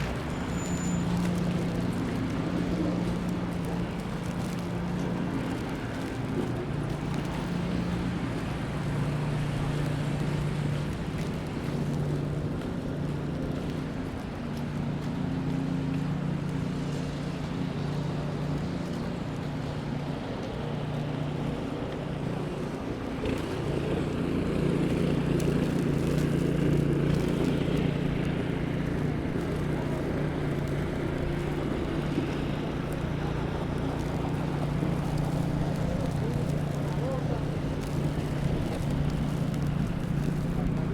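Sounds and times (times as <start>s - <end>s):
low engine hum: 0.0s - 40.9s
vehicle noise: 0.0s - 40.9s.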